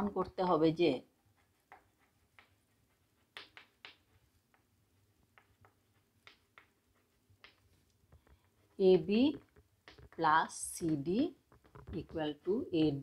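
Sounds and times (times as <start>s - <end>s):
chalk tapping on a chalkboard: 1.3s - 13.0s.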